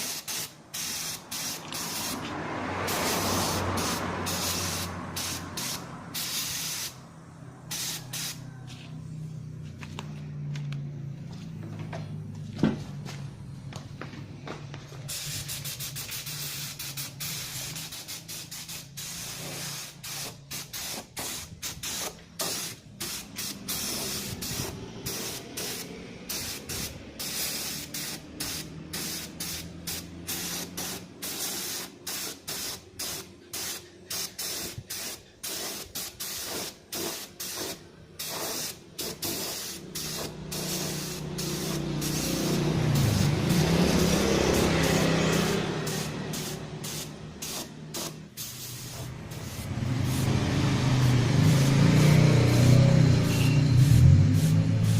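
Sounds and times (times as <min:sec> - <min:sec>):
hissing spray bursts: 0:00.0 - 0:08.5, 0:15.0 - 0:54.9.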